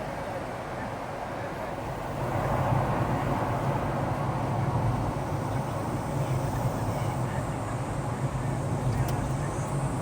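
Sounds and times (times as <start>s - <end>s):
road noise: 0.0s - 10.0s
vehicle rumble and hum: 0.0s - 10.0s.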